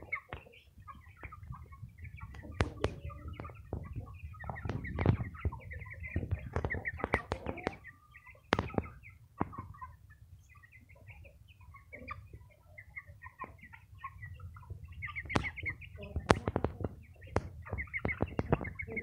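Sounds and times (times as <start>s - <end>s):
chicks cheeping: 0.0s - 19.0s.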